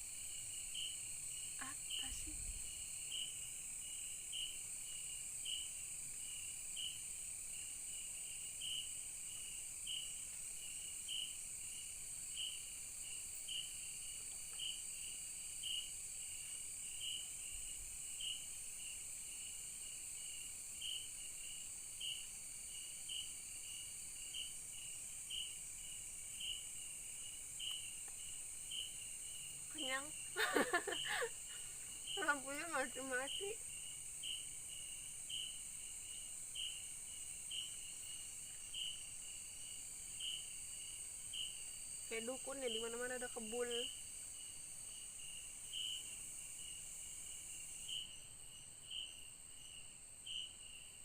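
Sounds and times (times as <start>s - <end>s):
insect chirping call: 0.0s - 51.0s
insects buzzing drone: 0.0s - 51.0s.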